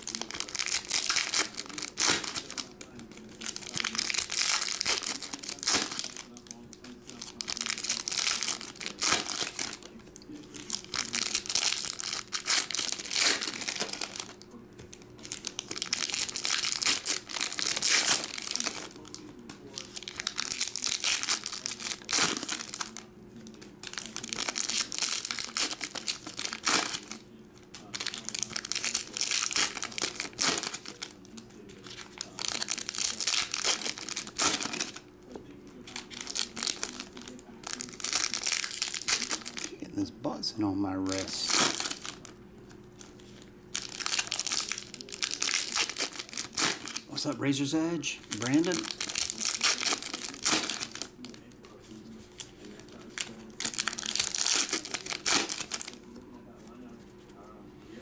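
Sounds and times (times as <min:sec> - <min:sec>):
foil wrappers crinkling: 0:00.0 - 0:39.8, 0:41.0 - 0:57.5.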